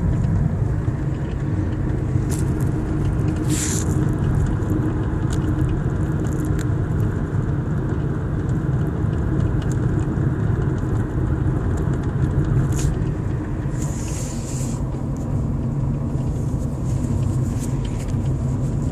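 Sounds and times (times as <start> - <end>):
road rumble in car cabin: 0.0 - 18.9.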